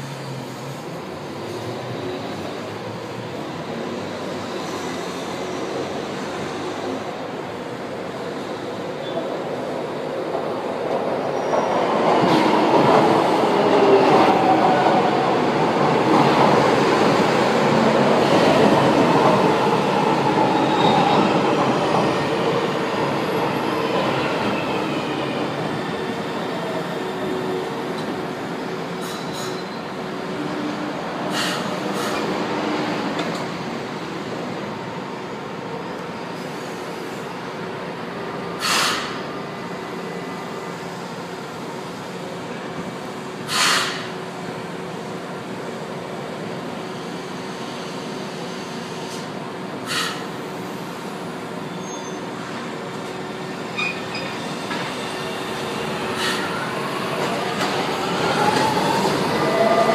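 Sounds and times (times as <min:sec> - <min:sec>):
train wheels rumbling on rail: 0:00.0 - 0:35.0, 0:36.0 - 0:59.9.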